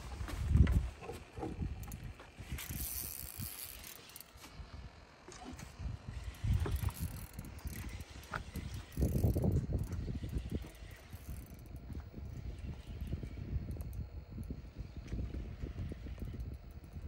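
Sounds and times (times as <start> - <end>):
fishing reel cranking: 1.0 - 4.4, 6.1 - 17.0.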